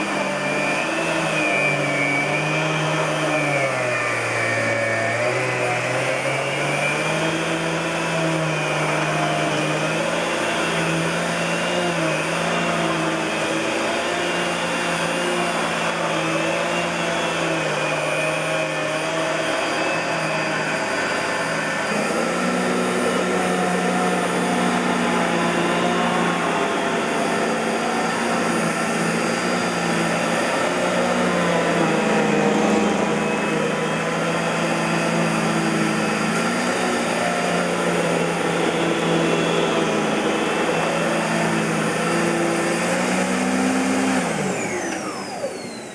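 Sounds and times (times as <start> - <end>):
vacuum cleaner motor hum: 0.0 - 45.9.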